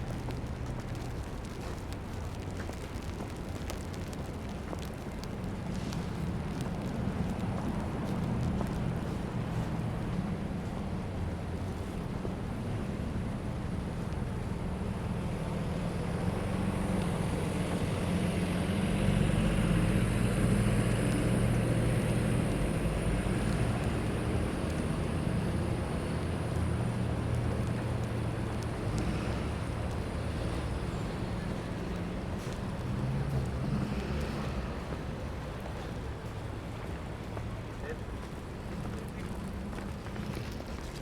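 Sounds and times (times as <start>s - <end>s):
traffic rumble: 0.0s - 41.0s
wind: 0.0s - 41.0s.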